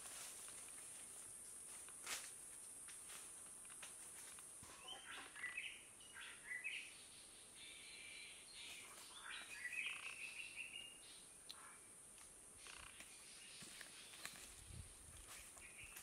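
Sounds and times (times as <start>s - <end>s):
faint forest birds calling: 0.0s - 16.0s.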